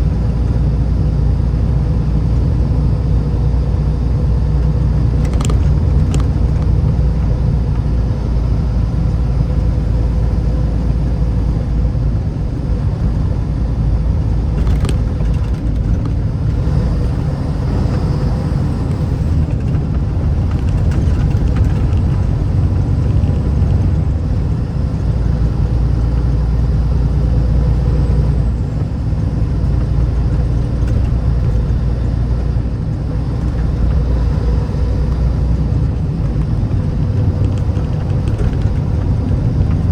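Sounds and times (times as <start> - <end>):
vehicle road and engine rumble: 0.0 - 39.9.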